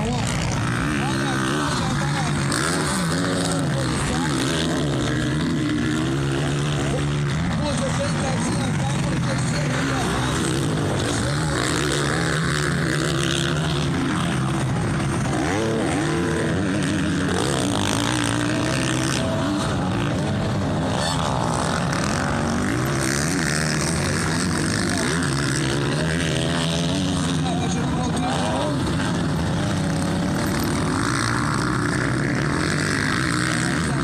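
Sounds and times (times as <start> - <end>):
motocross bikes revving past: 0.0 - 34.0.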